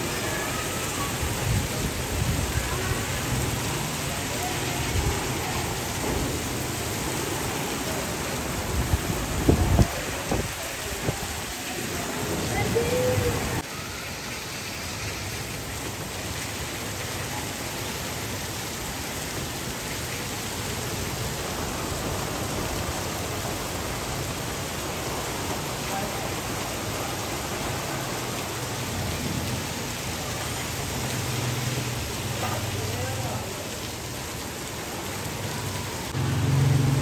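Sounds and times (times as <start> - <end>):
rain falling on street: 0.0 - 37.0.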